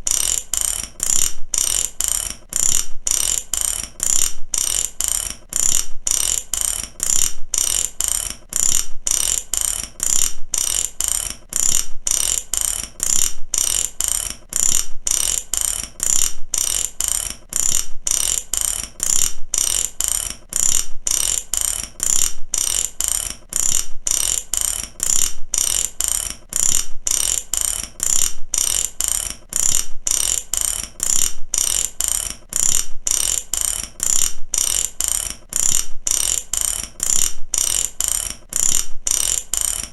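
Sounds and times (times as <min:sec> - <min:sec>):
ratchet wrench clicking: 0:00.0 - 0:39.9.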